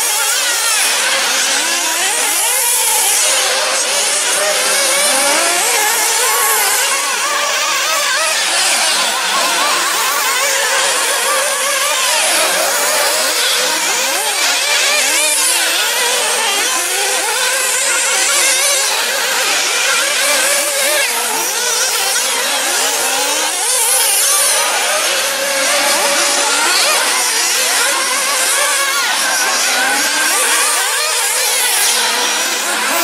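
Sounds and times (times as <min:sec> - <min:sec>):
small engines whining and revving: 0:00.0 - 0:33.0.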